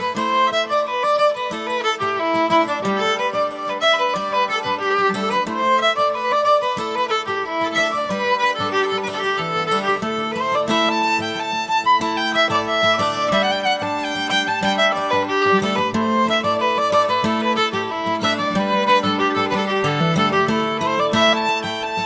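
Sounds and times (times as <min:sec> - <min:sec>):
fiddle playing quick melody: 0:00.0 - 0:22.0.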